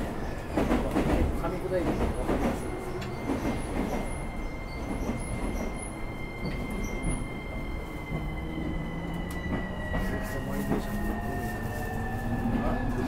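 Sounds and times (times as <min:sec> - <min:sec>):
train wheel and rail noise: 0:00.0 - 0:13.0.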